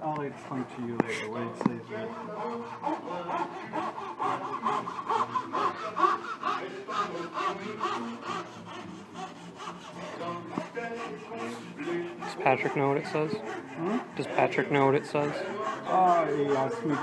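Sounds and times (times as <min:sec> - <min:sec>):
fret saw cutting veneer: 0:00.0 - 0:17.0.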